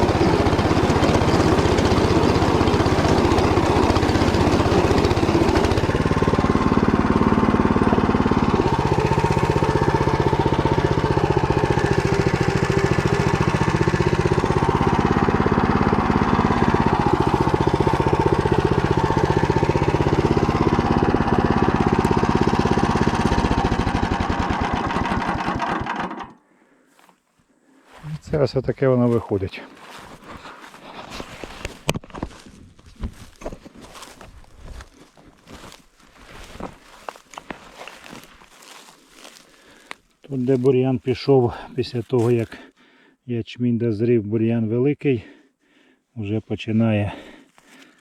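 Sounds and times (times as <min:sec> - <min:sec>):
rotary tiller churning soil: 0:00.0 - 0:26.4, 0:29.2 - 0:42.7
tractor engine under load: 0:00.0 - 0:26.4, 0:29.1 - 0:42.6.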